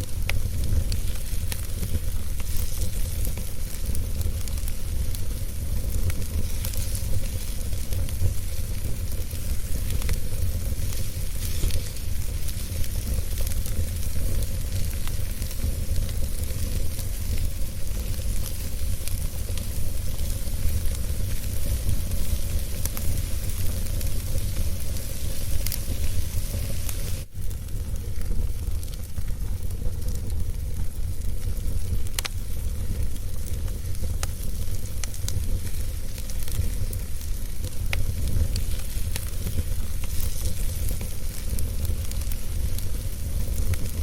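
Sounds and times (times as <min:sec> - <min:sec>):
fire crackles and pops: 0:00.0 - 0:44.0
wood fire hissing and rumbling: 0:00.0 - 0:44.0.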